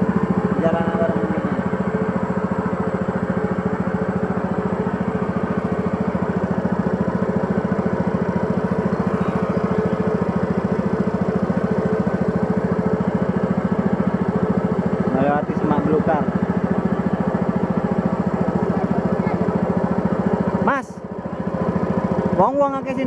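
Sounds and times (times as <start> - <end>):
small boat engine running: 0.0 - 23.0.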